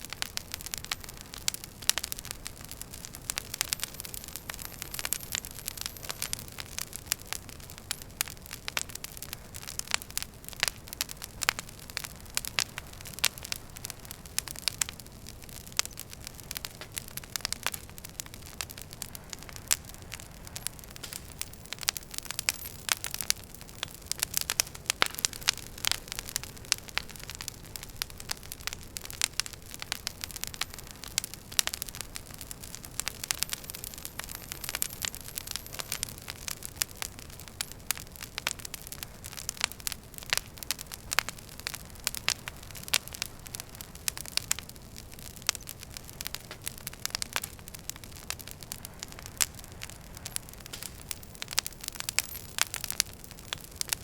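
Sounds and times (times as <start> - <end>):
low rush of burning: 0.0 - 54.0
sharp pops and snaps: 0.0 - 54.0
wood fire crackling: 0.0 - 54.0.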